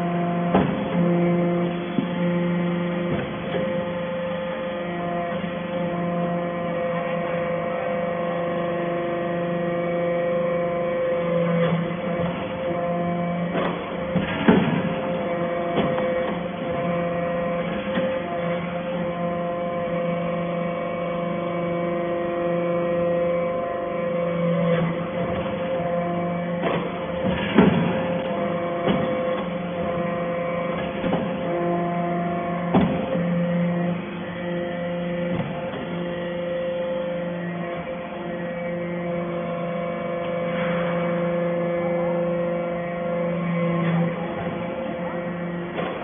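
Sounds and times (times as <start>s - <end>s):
hydraulic pump hum: 0.0s - 46.0s.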